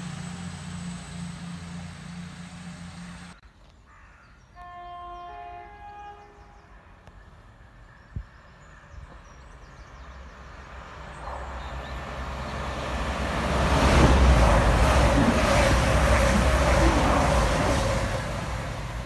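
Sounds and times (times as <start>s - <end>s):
passenger train passing: 0.0s - 3.4s, 4.6s - 19.0s.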